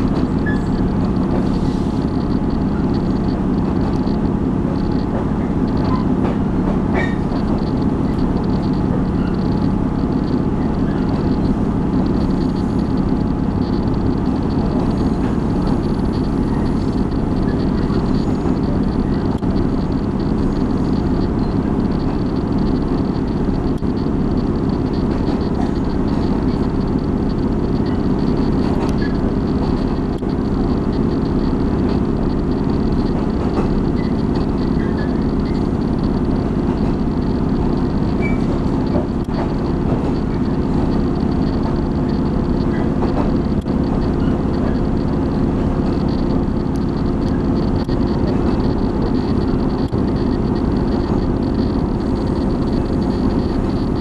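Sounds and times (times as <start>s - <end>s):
railcar engine: 0.0s - 54.0s
wheels rumbling on rails: 0.0s - 54.0s.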